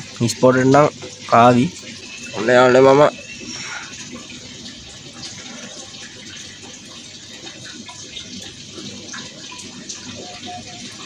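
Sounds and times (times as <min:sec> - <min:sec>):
aquarium water trickling and bubbling: 0:00.0 - 0:11.0
small drips and pops: 0:00.0 - 0:11.0.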